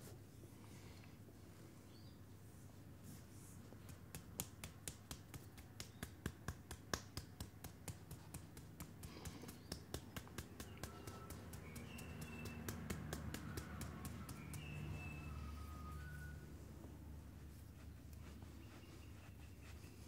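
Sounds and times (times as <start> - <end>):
hands massaging skin: 3.0 - 16.4, 17.3 - 20.0.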